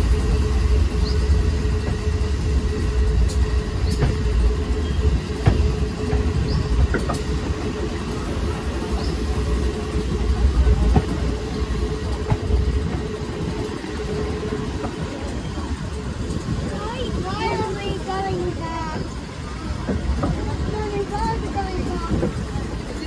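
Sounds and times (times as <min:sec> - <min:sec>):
constant hum: 0:00.0 - 0:23.0
train wheels rumbling on rail: 0:00.0 - 0:23.0.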